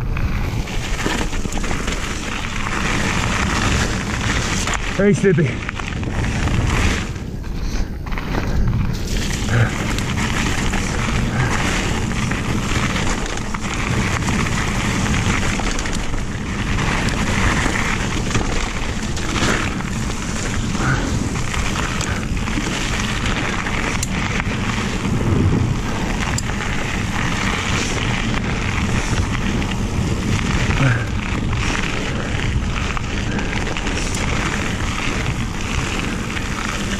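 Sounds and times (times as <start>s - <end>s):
bike knocks and rattles: 0.0s - 36.9s
tyres crunching over stones: 0.0s - 36.9s
wind buffeting microphone: 0.0s - 36.9s.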